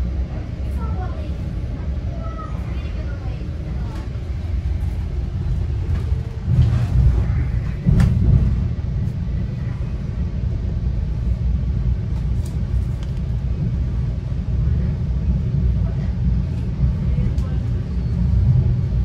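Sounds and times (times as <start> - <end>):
train rumbling from inside: 0.0 - 19.0.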